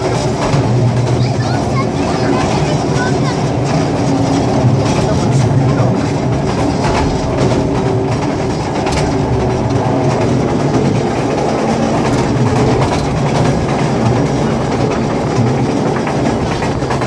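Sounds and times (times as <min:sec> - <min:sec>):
train carriage rumble: 0:00.0 - 0:17.0
wheels clicking and clacking: 0:00.0 - 0:17.0.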